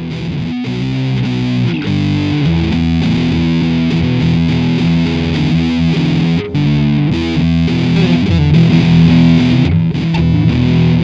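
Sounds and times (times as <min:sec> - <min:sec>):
distorted electric guitar chords: 0:00.0 - 0:11.0
steady beat: 0:01.8 - 0:11.0.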